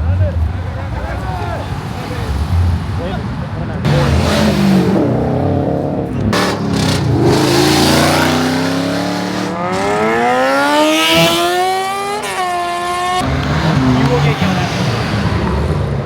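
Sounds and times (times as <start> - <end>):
car engine accelerating hard: 0.2 - 16.0.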